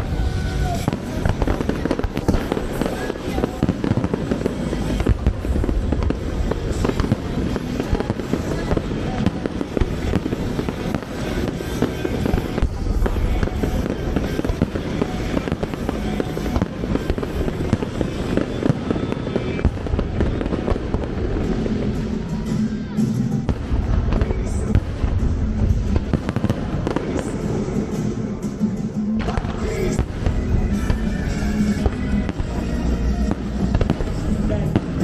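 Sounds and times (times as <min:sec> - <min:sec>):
fireworks booming and crackling: 0:00.0 - 0:35.0
music playing: 0:00.0 - 0:35.0.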